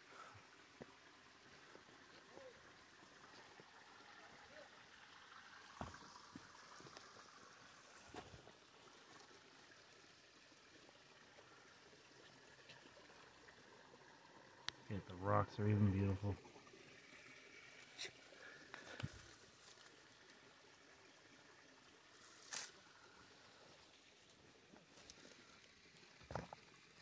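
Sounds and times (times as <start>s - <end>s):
water trickling: 0.0s - 27.0s.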